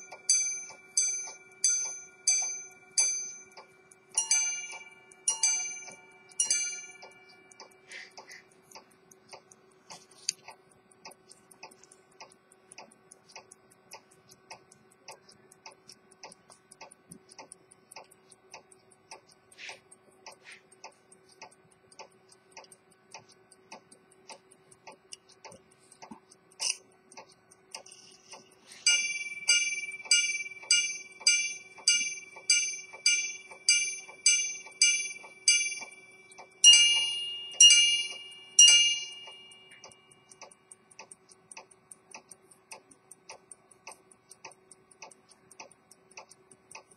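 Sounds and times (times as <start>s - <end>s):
pocket watch ticking: 0.0s - 46.9s.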